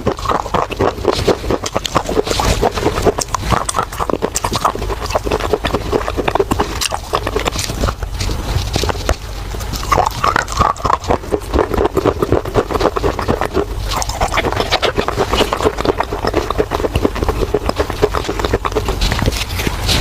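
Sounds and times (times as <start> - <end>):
clay being chewed crunchily: 0.0 - 20.0.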